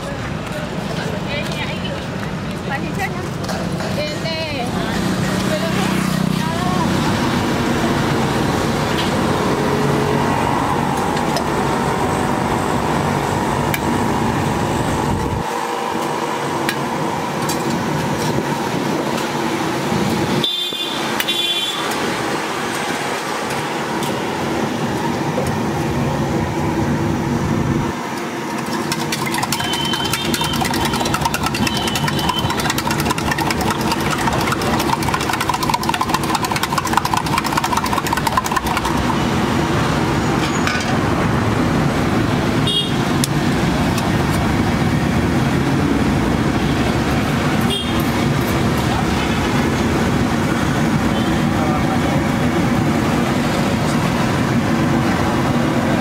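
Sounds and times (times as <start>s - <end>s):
passing motor vehicles: 0.0s - 20.4s, 21.0s - 56.0s.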